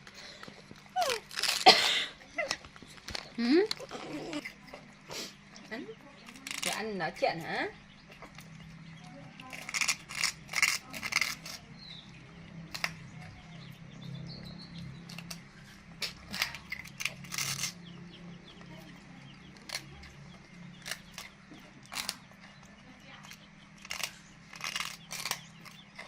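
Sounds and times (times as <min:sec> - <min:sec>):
monkey crunching rice cakes: 0:00.0 - 0:26.0.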